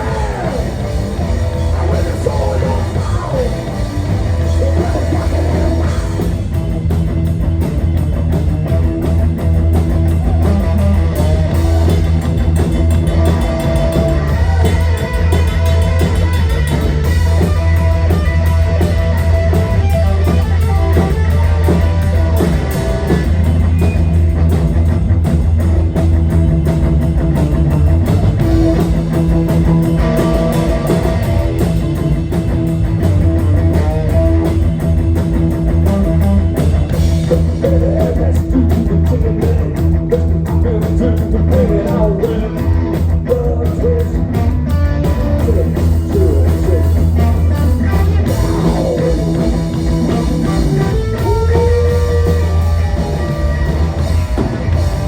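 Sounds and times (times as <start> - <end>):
bass guitar: 0.0 - 55.0
distorted electric guitar: 0.0 - 55.0
drum kit: 0.0 - 55.0.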